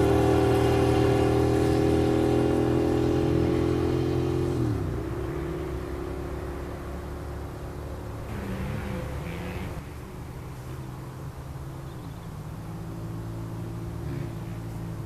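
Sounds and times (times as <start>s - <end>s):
motorcycle engine passing by: 0.0s - 15.0s.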